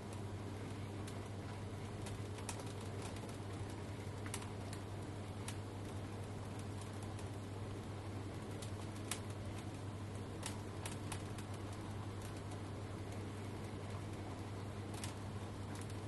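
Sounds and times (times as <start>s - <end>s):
light clicks from tumbling load: 0.0s - 7.4s, 8.3s - 16.0s.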